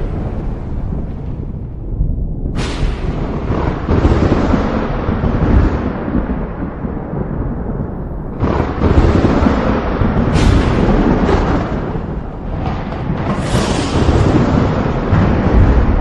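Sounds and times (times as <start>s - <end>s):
rolling thunder rumble: 0.0s - 16.0s
sharp thunder crack: 0.0s - 16.0s.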